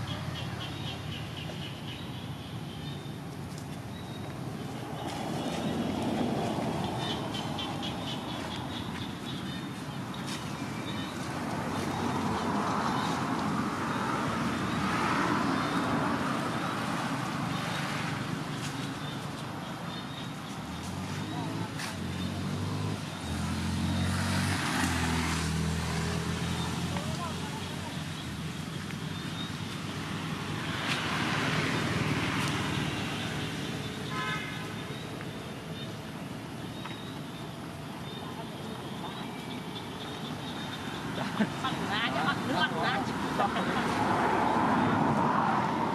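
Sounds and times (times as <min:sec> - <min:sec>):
vehicle passing by: 0:04.4 - 0:36.5, 0:37.4 - 0:45.9.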